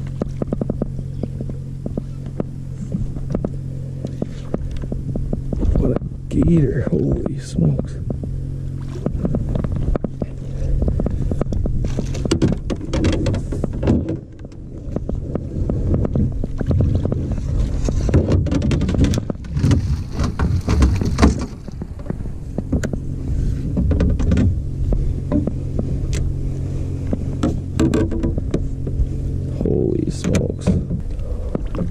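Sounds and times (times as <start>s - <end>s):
net and rod knocking on hull: 0.0s - 26.2s, 27.0s - 29.1s, 30.1s - 31.9s
steady low hum: 0.0s - 31.9s.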